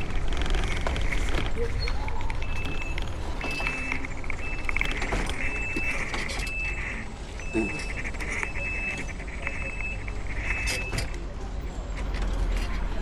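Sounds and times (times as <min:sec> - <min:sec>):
atv engine rumbling: 0:00.0 - 0:13.0.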